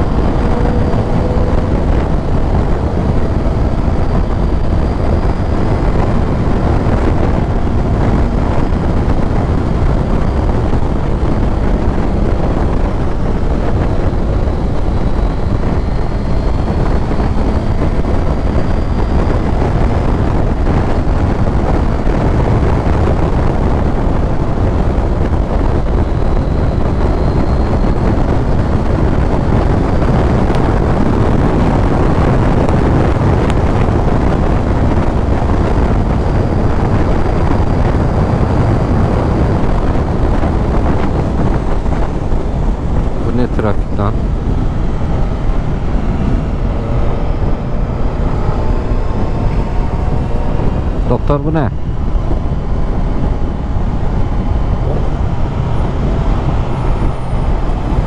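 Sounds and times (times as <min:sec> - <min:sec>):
motorcycle engine running: 0:00.0 - 0:43.2, 0:43.8 - 0:58.0
wind buffeting microphone: 0:00.0 - 0:58.0.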